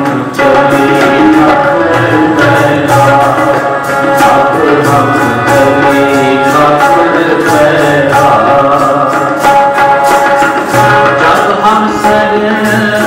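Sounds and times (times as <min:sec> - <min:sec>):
person singing a hymn: 0:00.0 - 0:09.2, 0:10.8 - 0:13.0
harmonium notes: 0:00.0 - 0:13.0
tabla strokes: 0:00.0 - 0:13.0.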